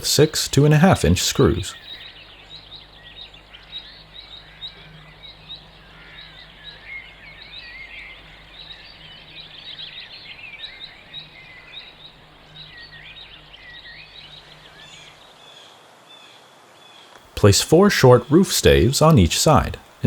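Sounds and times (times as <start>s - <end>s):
small birds chirping: 0.0s - 17.4s.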